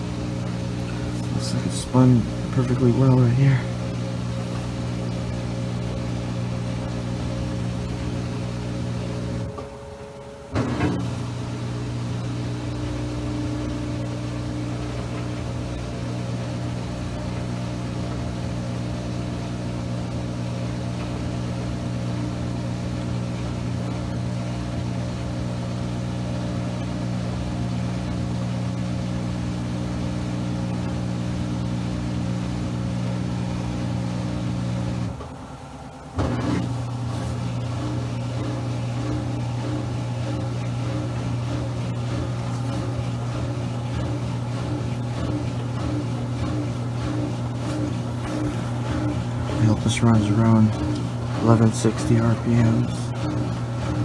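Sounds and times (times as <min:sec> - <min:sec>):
washing machine drum spinning: 0:00.0 - 0:54.0.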